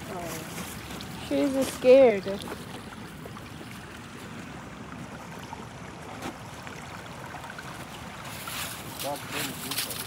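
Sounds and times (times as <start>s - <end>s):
stream rushing under ice: 0.0s - 10.0s.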